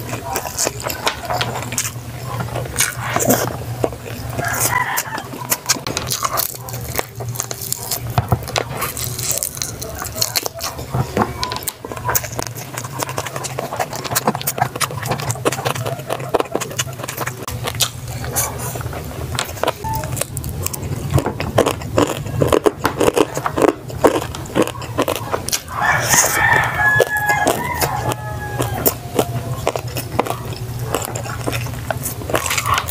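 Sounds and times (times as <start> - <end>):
chewing and crunching food: 0.0 - 32.9
steady low hum: 0.0 - 32.9.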